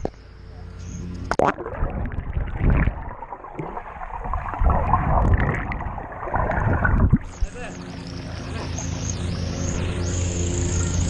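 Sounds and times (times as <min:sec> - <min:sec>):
low underwater rumbles: 0:00.0 - 0:10.2
muffled water splashing underwater: 0:00.0 - 0:10.2.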